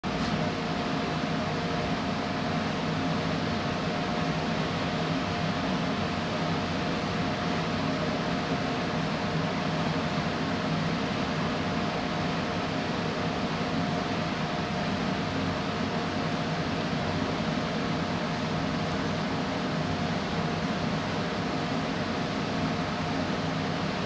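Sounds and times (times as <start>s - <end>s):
ventilation hum and hiss: 0.0s - 24.0s.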